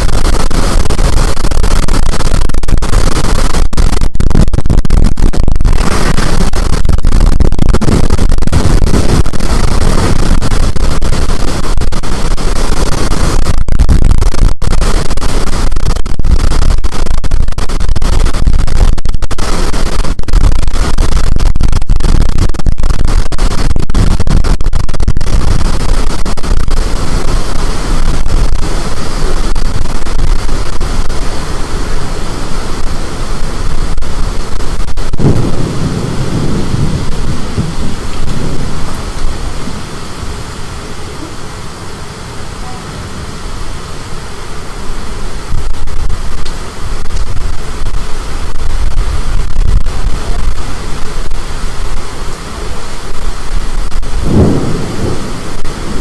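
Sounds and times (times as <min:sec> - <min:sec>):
storm wind blasting microphone: 0:00.0 - 0:56.0.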